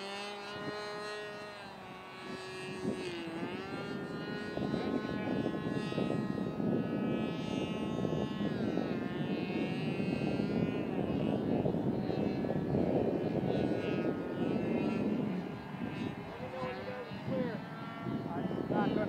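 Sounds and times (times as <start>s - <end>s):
model airplane engine whining: 0.0s - 19.0s
steady rushing noise: 2.2s - 19.0s.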